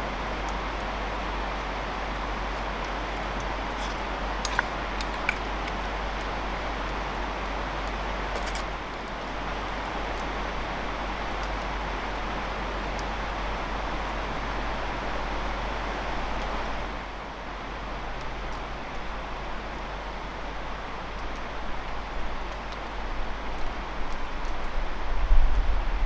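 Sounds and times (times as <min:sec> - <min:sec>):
campfire sizzling hiss: 0:00.0 - 0:25.3.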